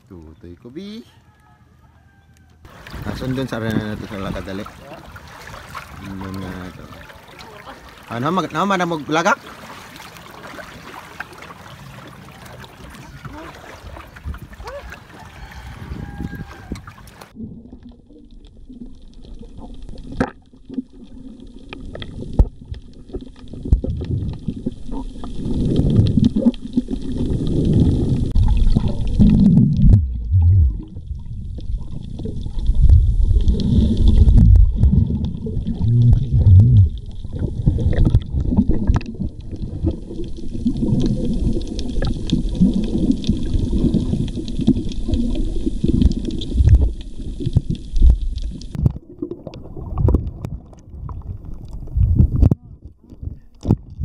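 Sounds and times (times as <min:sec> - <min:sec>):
underwater rumbling and gurgling: 0:02.6 - 0:54.0.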